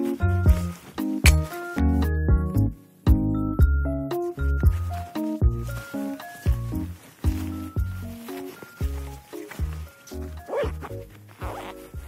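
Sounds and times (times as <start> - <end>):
regular beat: 0.0 - 10.2
bright melody: 0.0 - 12.0.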